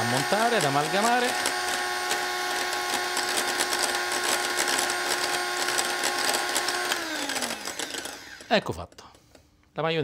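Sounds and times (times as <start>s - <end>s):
electric hand mixer running: 0.0s - 8.5s.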